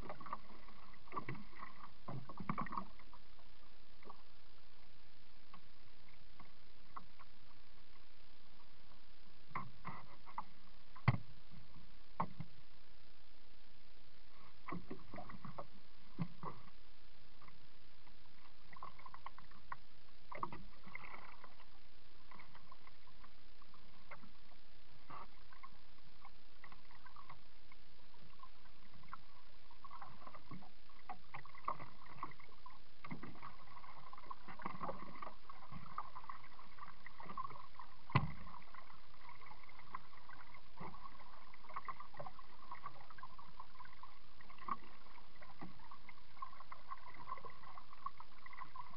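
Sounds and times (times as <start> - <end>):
water lapping against hull: 0.0 - 4.3, 9.5 - 12.5, 14.3 - 16.8, 18.2 - 48.9.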